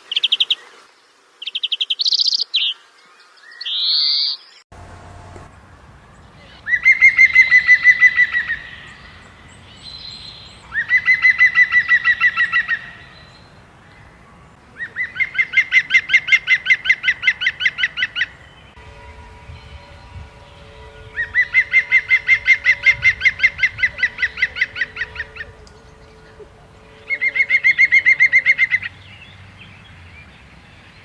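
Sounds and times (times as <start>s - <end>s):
bird calling: 0.0s - 29.4s.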